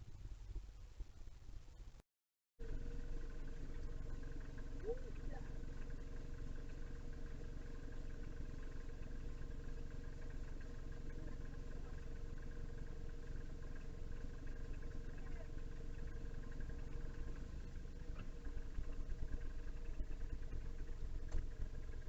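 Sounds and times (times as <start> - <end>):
low mechanical hum: 0.0 - 2.0, 2.6 - 22.0
faint steady tones: 2.6 - 22.0.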